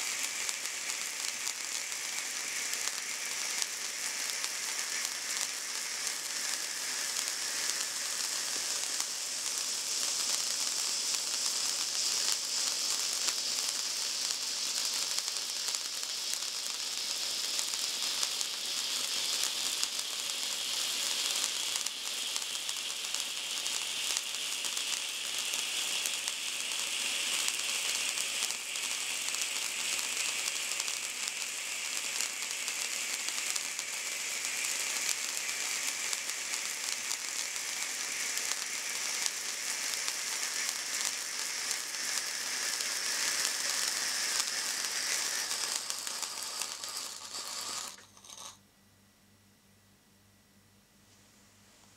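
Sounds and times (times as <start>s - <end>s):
spark fountains hissing: 0.0s - 48.6s.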